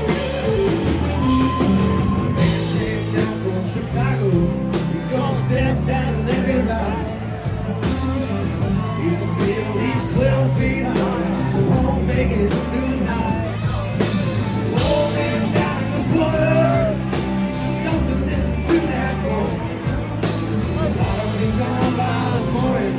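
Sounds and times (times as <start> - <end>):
person singing: 0.0 - 22.9
rock band playing live: 0.0 - 22.9.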